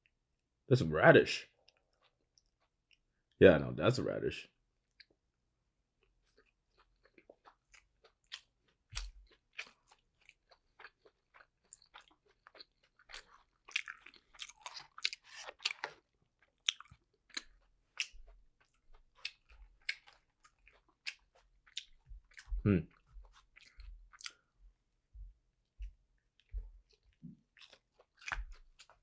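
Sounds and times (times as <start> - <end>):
person chewing food: 1.5 - 3.4, 4.8 - 5.3, 5.9 - 29.0.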